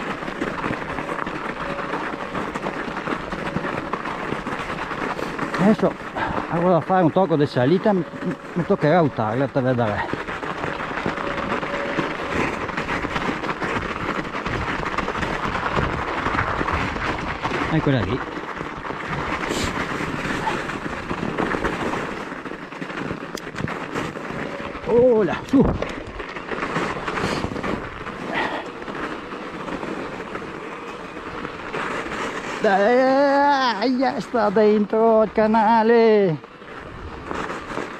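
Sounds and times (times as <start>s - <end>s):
bicycle tyres crunching on snow: 0.0s - 37.9s
crackles and clicks of bike jolting: 0.0s - 37.9s.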